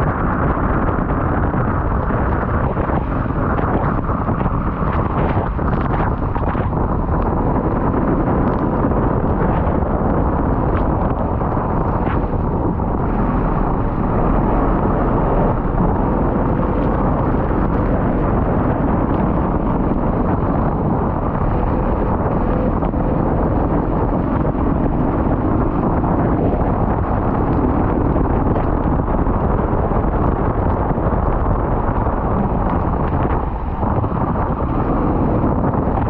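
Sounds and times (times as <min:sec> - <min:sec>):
vehicle engine rumbling: 0:00.0 - 0:36.0
wind buffeting microphone: 0:00.0 - 0:36.0.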